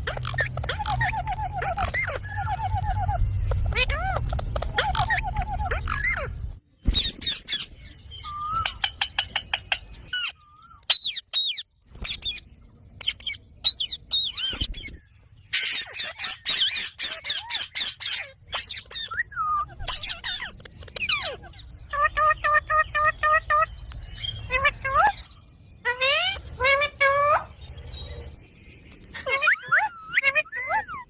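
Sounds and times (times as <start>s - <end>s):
parrots chattering and squawking: 0.0s - 28.4s, 29.0s - 31.0s.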